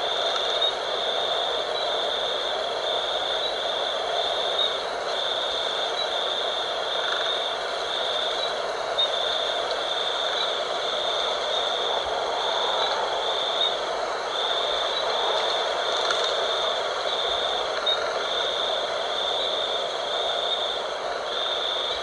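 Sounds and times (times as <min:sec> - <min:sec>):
insect trilling: 0:00.0 - 0:22.0
wind blowing: 0:00.0 - 0:22.0.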